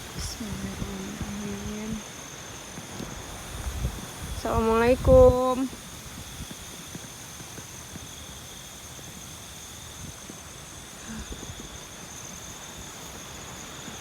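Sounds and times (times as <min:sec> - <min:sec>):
insects chirring: 0:00.0 - 0:14.0
wind buffeting microphone: 0:00.0 - 0:14.0.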